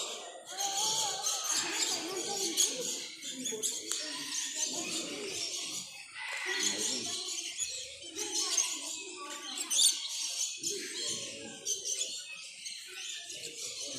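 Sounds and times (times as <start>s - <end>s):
birds chirping and calling: 0.0s - 13.9s.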